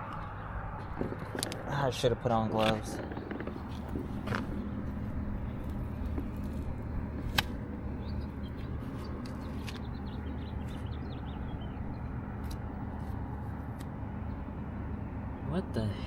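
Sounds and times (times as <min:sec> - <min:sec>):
hvac equipment humming: 0:00.0 - 0:16.0.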